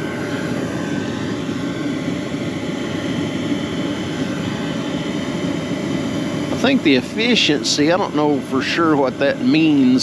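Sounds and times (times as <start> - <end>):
faint steady hum: 0.0 - 10.0
heater blower drone: 0.0 - 10.0.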